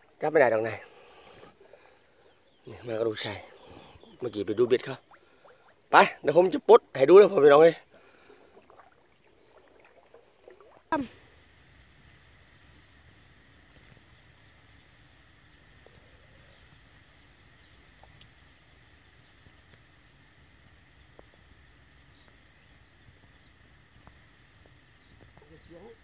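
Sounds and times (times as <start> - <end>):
low hiss: 0.0 - 26.0.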